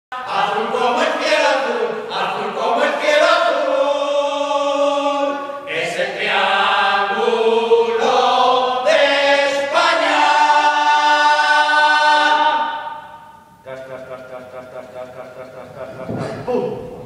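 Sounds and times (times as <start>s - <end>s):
group singing in chorus: 0.1s - 16.6s.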